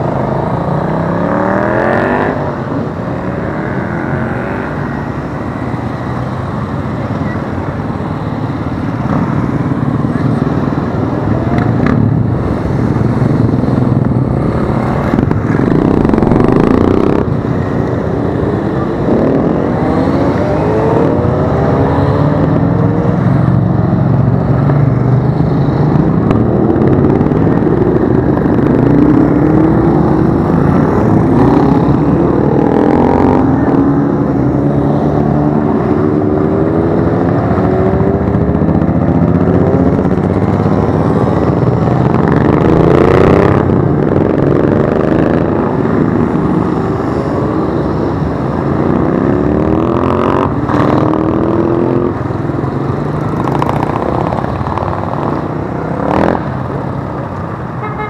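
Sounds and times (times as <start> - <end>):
motorcycles passing by: 0.0 - 58.0.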